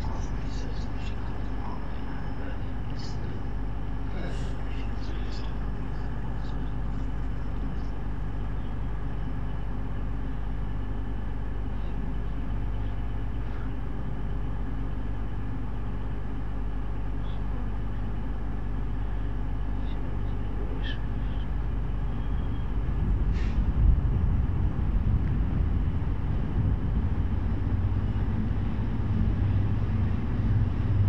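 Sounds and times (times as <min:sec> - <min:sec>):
distant diesel train engine rumble: 0:00.0 - 0:31.0.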